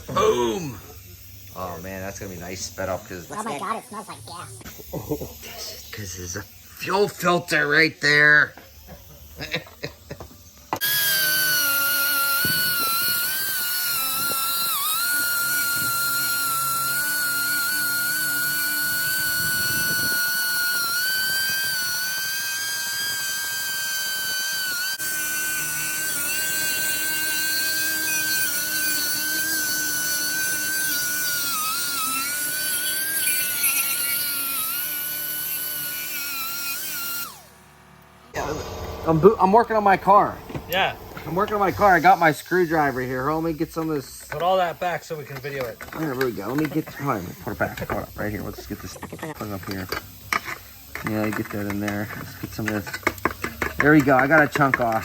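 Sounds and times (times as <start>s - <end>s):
rotary power tool whining: 1.4s - 55.0s.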